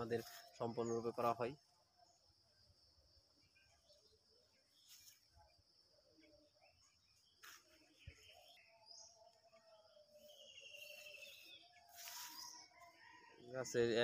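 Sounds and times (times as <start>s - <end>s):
distant bird calls: 0.0s - 14.0s.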